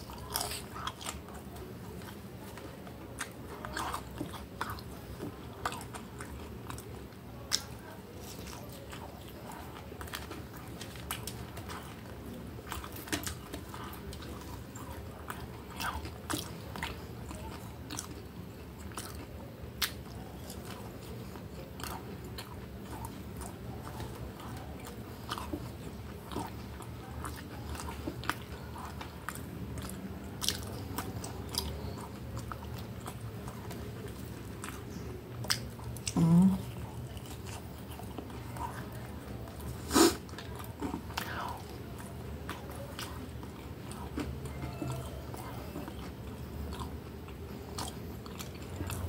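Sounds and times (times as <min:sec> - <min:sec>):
faint low hum: 0:00.0 - 0:49.0
person chewing crunchy food: 0:00.0 - 0:49.0.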